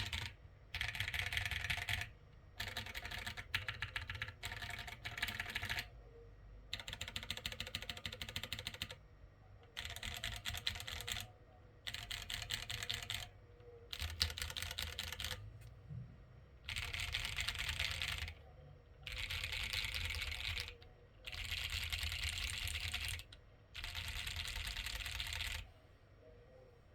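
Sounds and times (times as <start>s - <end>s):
mechanical keyboard typing: 0.0s - 5.9s, 6.7s - 9.0s, 9.6s - 13.3s, 13.9s - 15.4s, 16.6s - 18.4s, 19.0s - 25.7s.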